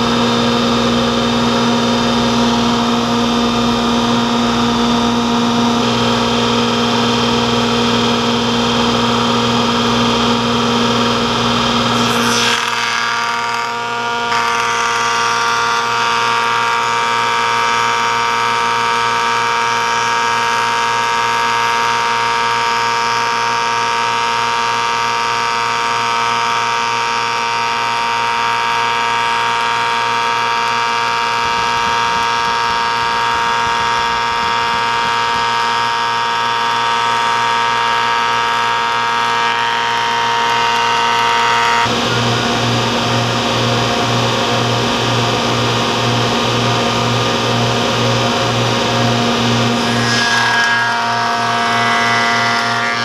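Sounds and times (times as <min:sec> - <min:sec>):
planer machine whine: 0:00.0 - 0:53.0.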